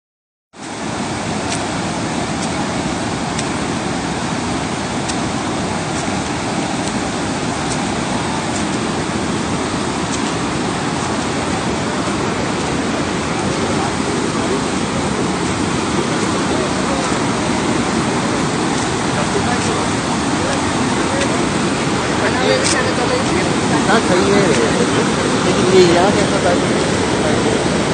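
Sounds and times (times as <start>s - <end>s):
floodwater rushing: 0.6s - 27.9s.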